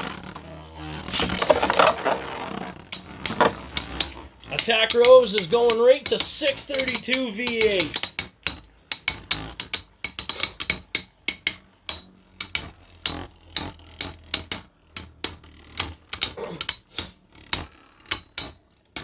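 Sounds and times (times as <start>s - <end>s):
spinning tops clacking: 1.1s - 2.3s, 2.9s - 19.0s.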